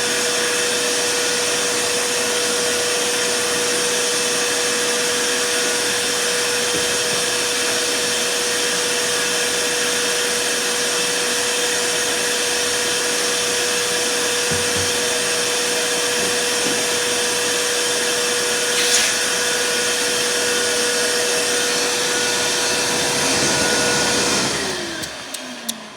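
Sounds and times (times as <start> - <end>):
vacuum cleaner running: 0.0 - 25.9.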